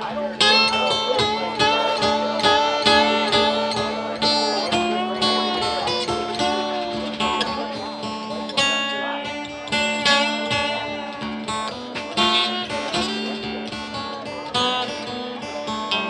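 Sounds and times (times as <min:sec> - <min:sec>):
acoustic guitar picked and strummed: 0:00.0 - 0:16.0.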